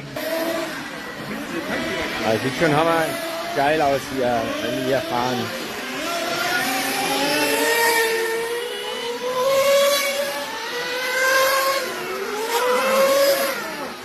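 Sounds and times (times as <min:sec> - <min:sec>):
rc motorcycle motors revving: 0:00.0 - 0:14.0.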